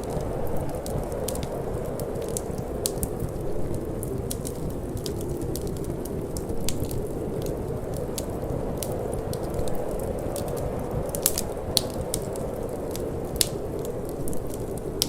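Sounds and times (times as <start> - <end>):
rush of wind and flame: 0.0 - 15.0
wood fire crackling: 0.0 - 15.0.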